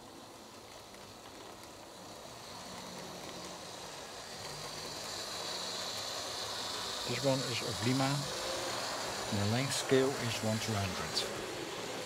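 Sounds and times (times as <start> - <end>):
model train motor whine: 0.0 - 12.0.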